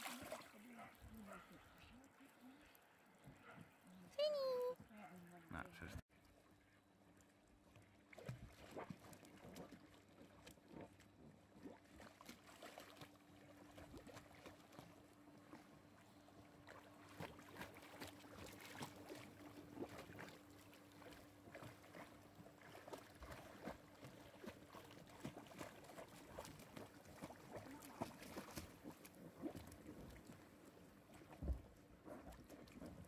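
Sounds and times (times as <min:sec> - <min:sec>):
dog paddling in pool water: 0:00.0 - 0:02.5, 0:06.1 - 0:33.0.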